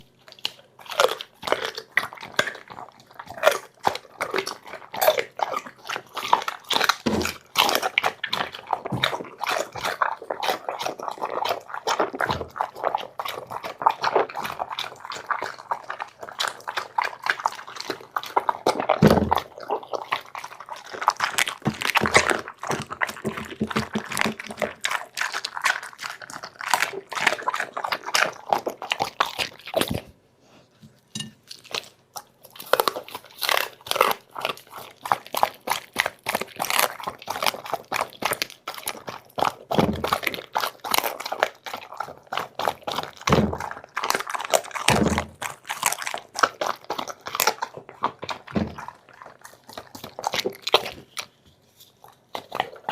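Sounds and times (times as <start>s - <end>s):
dog crunching food: 0.0s - 30.2s, 30.9s - 52.9s.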